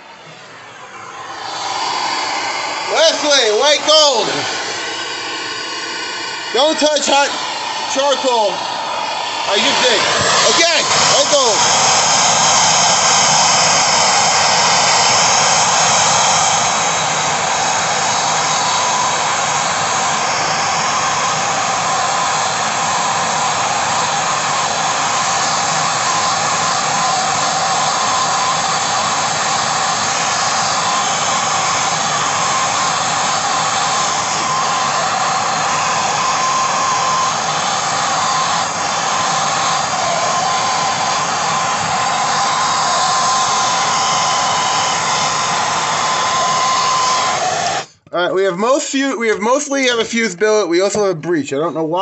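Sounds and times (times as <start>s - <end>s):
gas torch flames roaring: 0.0s - 49.1s.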